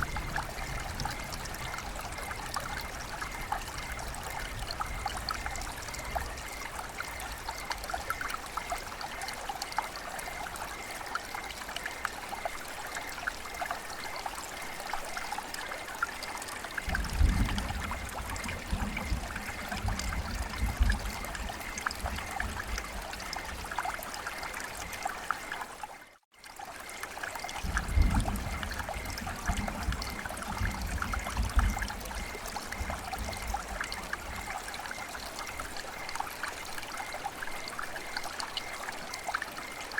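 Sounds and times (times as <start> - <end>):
steady rain: 0.0 - 39.9
trickling running water: 0.0 - 39.9
water dripping: 0.0 - 39.9.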